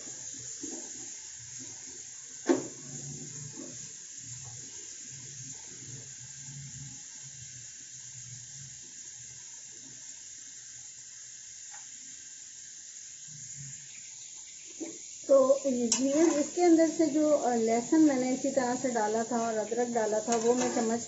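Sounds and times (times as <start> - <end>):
onions sizzling in a pot: 0.0 - 21.0.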